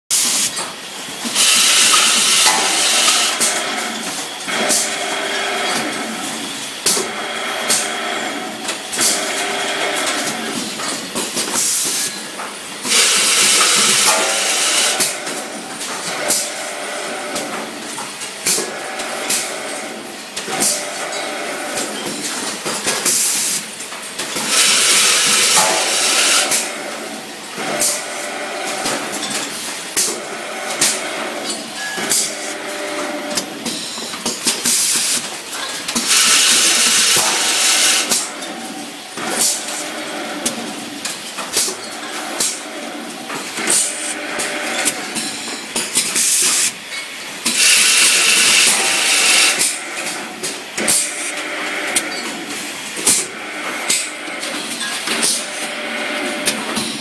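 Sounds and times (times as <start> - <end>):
pneumatic cylinders clacking: 0.1 - 57.0.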